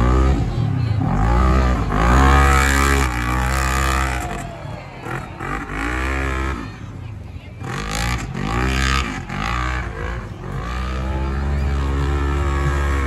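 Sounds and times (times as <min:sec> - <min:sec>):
engines revving hard: 0:00.0 - 0:13.0.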